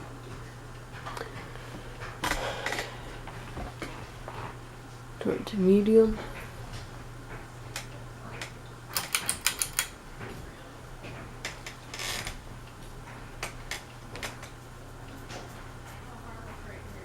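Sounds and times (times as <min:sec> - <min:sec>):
fan clicks: 0:00.0 - 0:16.7
ceiling fan humming: 0:00.0 - 0:17.0.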